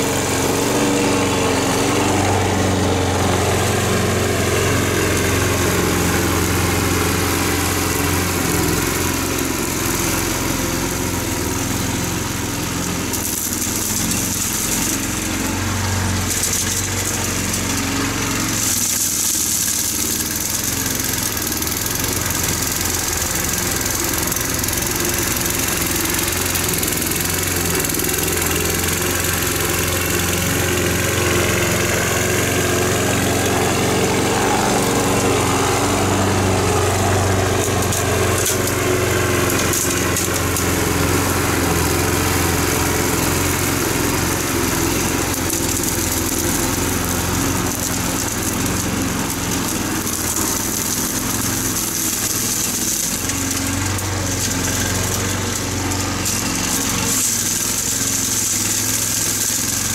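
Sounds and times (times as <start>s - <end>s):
small lawn mower engine running: 0.0s - 59.9s.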